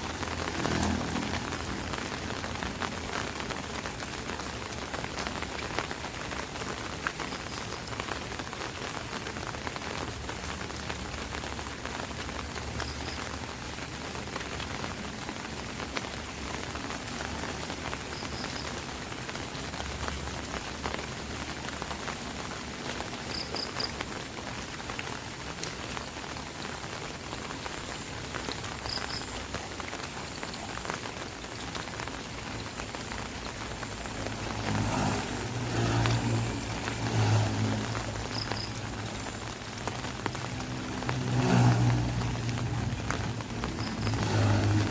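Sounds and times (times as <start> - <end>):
rain pattering on an umbrella: 0.0 - 44.9.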